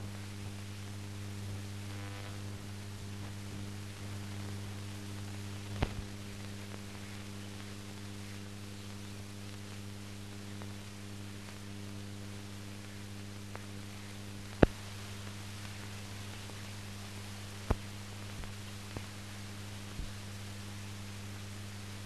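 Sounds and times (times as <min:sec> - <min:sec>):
electrical mains hum with hiss: 0:00.0 - 0:22.0.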